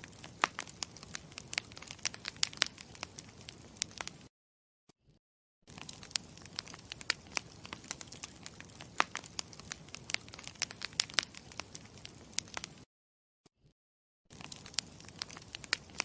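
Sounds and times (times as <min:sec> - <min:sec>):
campfire crackling and popping: 0:00.0 - 0:04.3, 0:05.7 - 0:12.9, 0:14.3 - 0:16.0.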